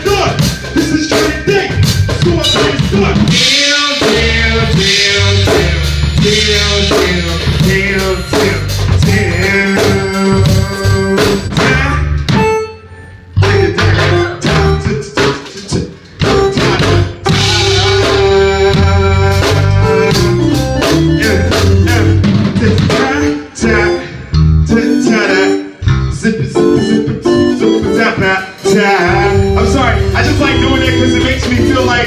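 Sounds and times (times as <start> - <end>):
drum kit: 0.0 - 12.7, 13.4 - 23.8, 26.4 - 32.0
electric bass: 0.0 - 32.0
keyboard: 0.0 - 32.0.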